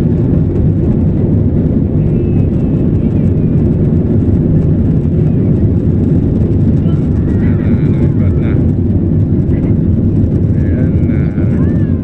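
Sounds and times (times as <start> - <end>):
jet engines and wheels rumbling: 0.0 - 12.0.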